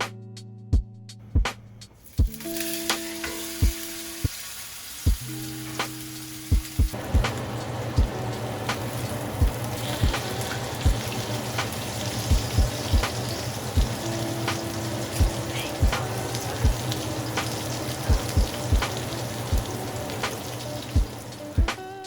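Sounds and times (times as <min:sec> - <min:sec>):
background music with beat: 0:00.0 - 0:04.4, 0:05.0 - 0:22.0
steak sizzling in a pan: 0:02.0 - 0:22.0.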